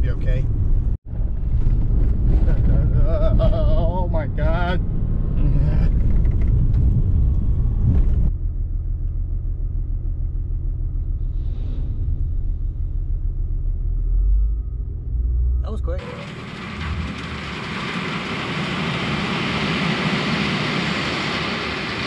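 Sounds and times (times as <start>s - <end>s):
low engine rumble: 0.0s - 22.0s
road rumble with rattles: 0.0s - 22.0s.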